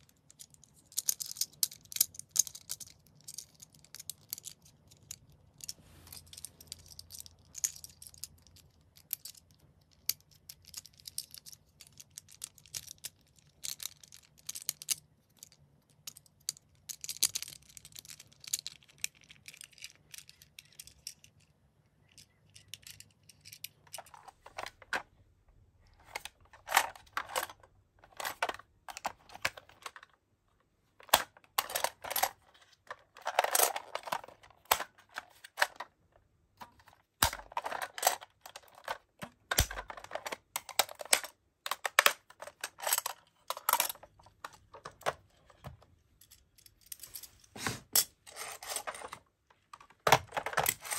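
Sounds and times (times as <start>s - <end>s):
plastic toy parts clicking: 0.0s - 25.1s, 25.9s - 30.2s, 31.0s - 36.0s, 36.6s - 47.0s, 48.3s - 50.9s.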